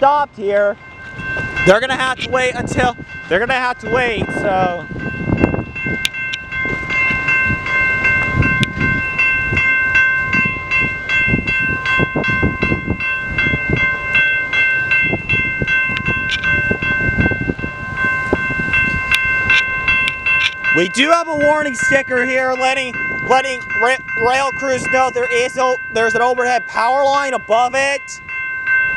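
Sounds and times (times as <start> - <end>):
crossing bell ringing: 0.0 - 28.9
low rumble of train: 0.0 - 28.9.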